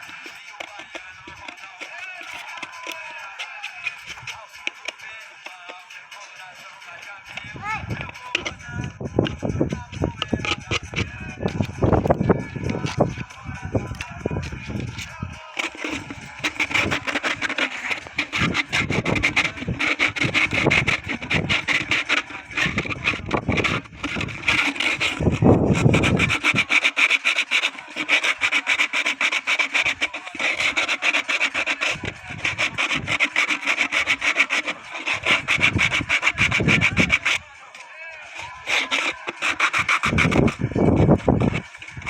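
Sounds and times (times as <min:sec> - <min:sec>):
sandpaper rubbing wood: 0:00.0 - 0:37.5, 0:38.4 - 0:42.0.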